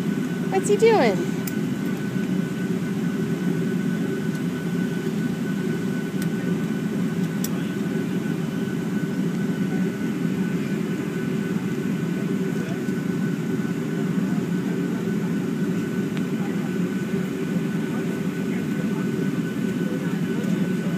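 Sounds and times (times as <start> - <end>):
airliner cabin engine drone: 0.0 - 20.9.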